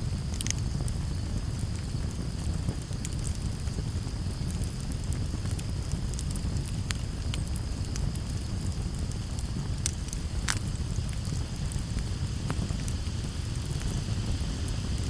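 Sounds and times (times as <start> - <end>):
campfire wood crackling: 0.0 - 15.0
fire pops and snaps: 0.0 - 15.0.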